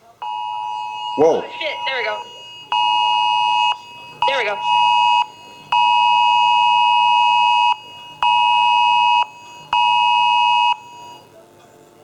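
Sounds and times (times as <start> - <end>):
phone alert beep tone: 0.2 - 11.2.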